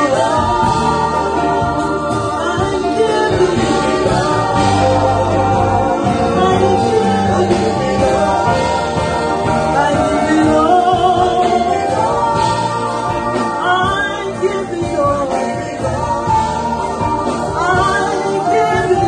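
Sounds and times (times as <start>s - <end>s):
keyboard accompaniment: 0.0s - 19.0s
woman singing gospel song: 0.0s - 19.0s.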